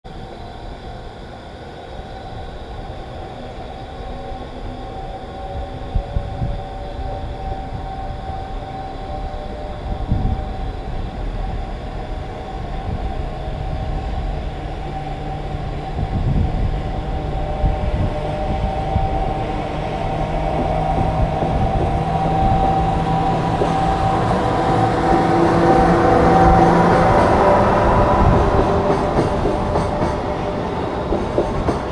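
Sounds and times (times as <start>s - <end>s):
freight train passing: 0.1s - 31.9s
locomotive steady hum: 0.1s - 31.9s.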